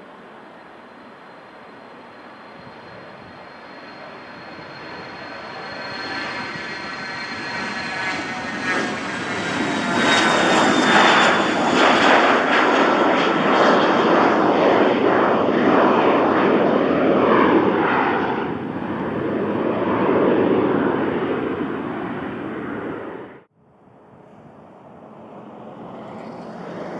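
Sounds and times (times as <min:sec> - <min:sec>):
jet engine roar: 0:00.0 - 0:26.9
jet engine whine: 0:00.0 - 0:26.9.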